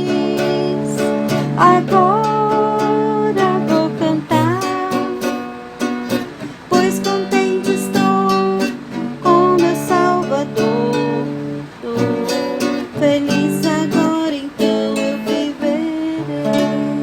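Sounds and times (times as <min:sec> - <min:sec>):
acoustic guitar playing hymn melody: 0:00.0 - 0:17.0.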